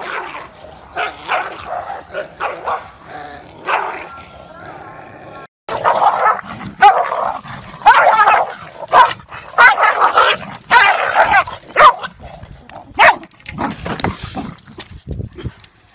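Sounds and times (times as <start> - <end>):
dogs fighting and barking: 0.0 - 15.5.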